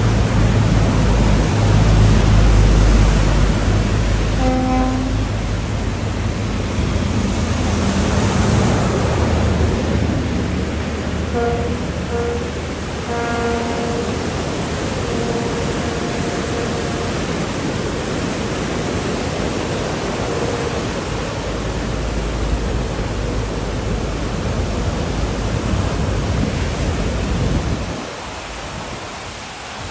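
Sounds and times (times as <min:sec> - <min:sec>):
heavy low rumble: 0:00.0 - 0:28.5.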